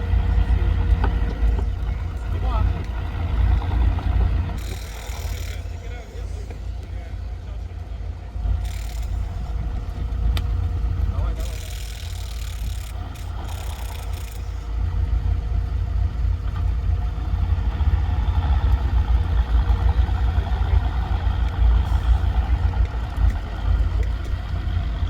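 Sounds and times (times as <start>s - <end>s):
off-road vehicle engine running: 0.0s - 25.0s.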